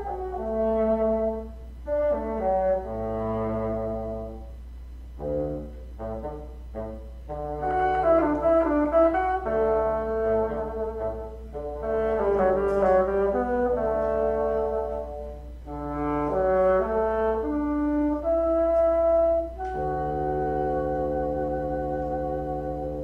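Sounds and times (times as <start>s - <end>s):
bassoon duet: 0.0s - 23.0s.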